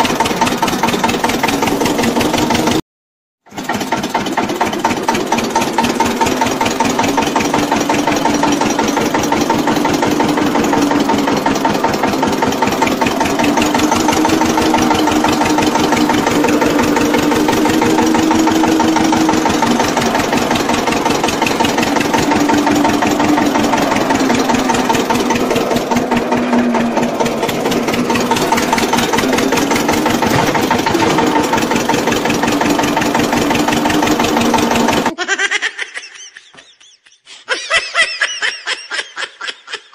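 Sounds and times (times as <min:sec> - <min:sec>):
small tractor engine running: 0:00.0 - 0:02.8, 0:03.5 - 0:35.2.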